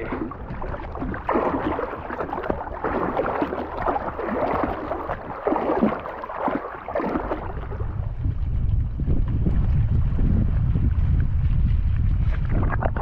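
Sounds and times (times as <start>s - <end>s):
swim fins kicking water: 0.0s - 13.0s
water splashing and sloshing: 0.0s - 13.0s.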